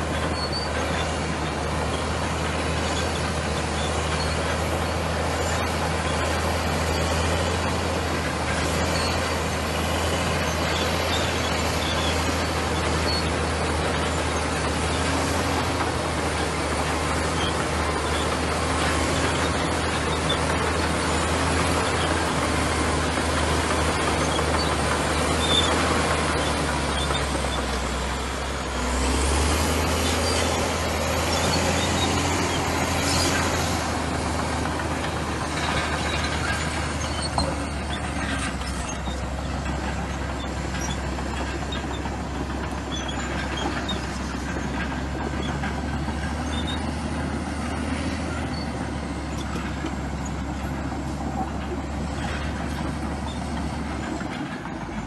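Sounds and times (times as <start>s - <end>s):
bulldozer diesel engine droning: 0.0s - 55.0s
high-pitched machine squeaks: 0.1s - 54.4s.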